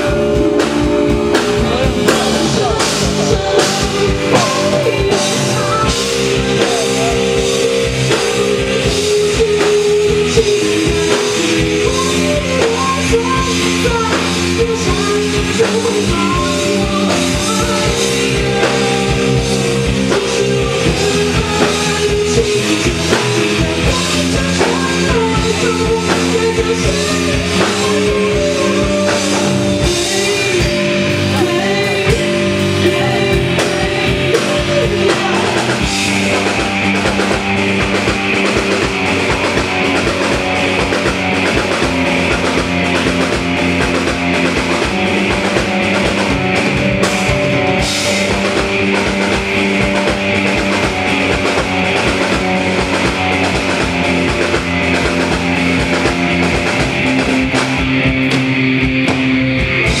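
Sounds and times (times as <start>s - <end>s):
drum kit hits: 0.0s - 60.0s
rock band playing live: 0.0s - 60.0s.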